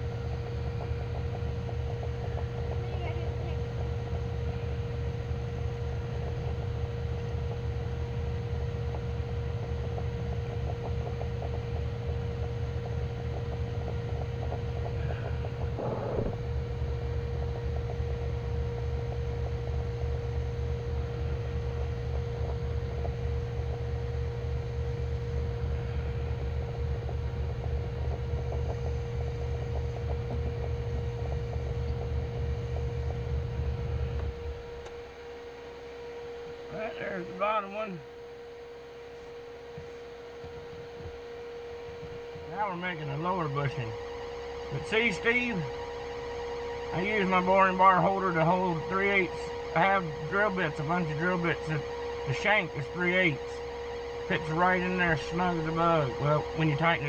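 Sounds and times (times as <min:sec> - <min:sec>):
lathe motor hum and whine: 0:00.0 - 0:57.0.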